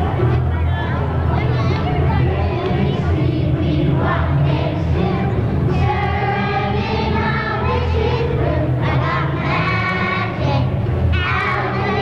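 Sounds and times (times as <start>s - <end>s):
children's choir singing: 2.0s - 12.0s.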